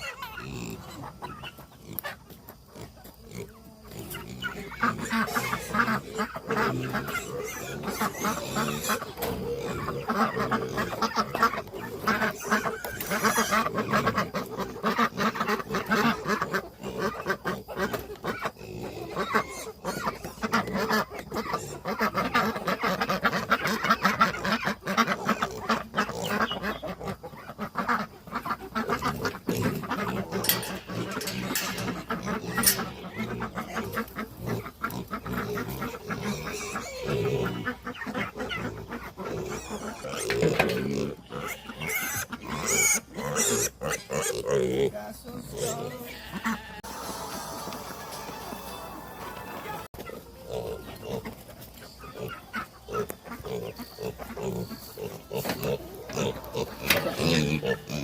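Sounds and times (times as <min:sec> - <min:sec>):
farm birds calling: 0:00.0 - 0:58.0.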